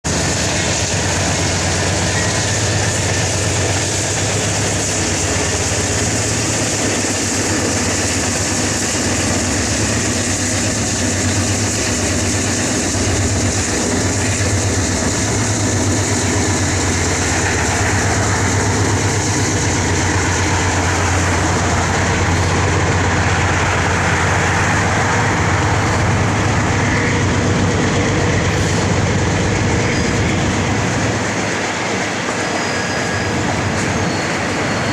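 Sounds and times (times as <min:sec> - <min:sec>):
diesel locomotive rumble: 0:00.0 - 0:34.9
train wheels on rails: 0:00.0 - 0:34.9.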